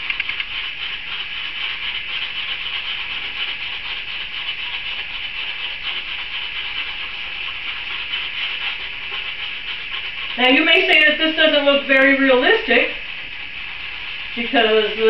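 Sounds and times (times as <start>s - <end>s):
marker scribbling on paper: 0.0s - 15.0s.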